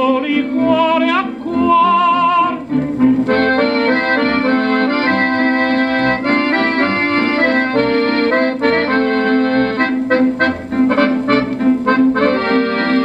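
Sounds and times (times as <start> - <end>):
accordion music from old record: 0.0 - 13.0.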